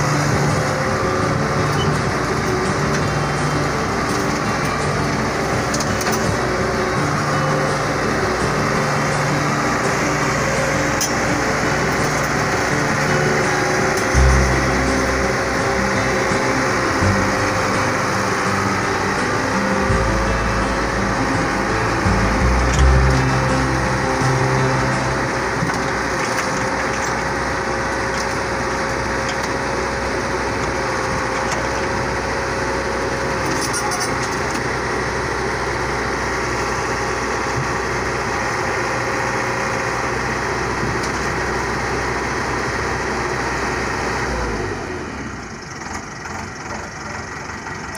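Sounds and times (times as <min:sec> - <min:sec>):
diesel engine running: 0:00.0 - 0:47.9
steady whine: 0:00.0 - 0:47.9.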